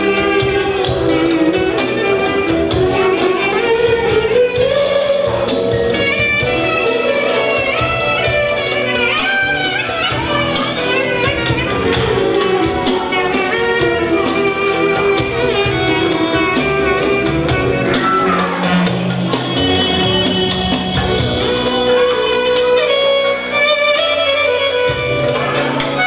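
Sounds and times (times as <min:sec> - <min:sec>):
steady drum beat: 0:00.0 - 0:23.0
instrumental band music: 0:00.0 - 0:26.0.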